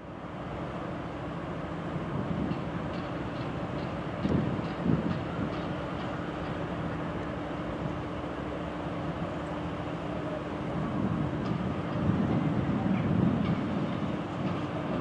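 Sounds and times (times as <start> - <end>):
electric locomotive hum: 0.0 - 15.0
train wheels rumbling on track: 0.0 - 15.0.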